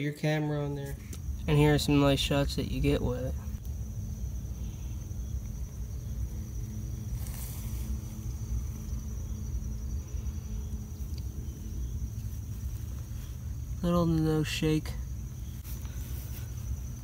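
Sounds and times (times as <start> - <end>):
low steady rumble: 0.9 - 17.0
high-pitched insect drone: 1.0 - 17.0.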